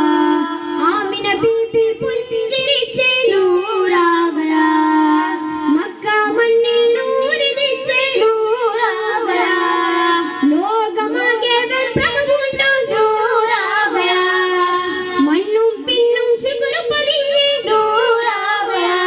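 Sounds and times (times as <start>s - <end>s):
boys singing into microphones: 0.0s - 19.0s.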